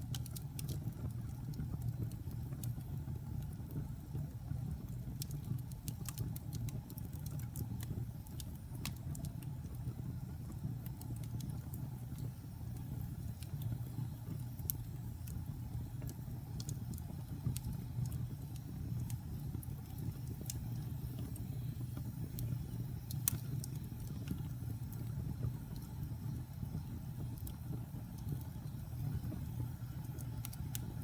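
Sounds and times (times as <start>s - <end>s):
burning wood crackling and popping: 0.0s - 31.0s
fire flames rumbling: 0.0s - 31.0s.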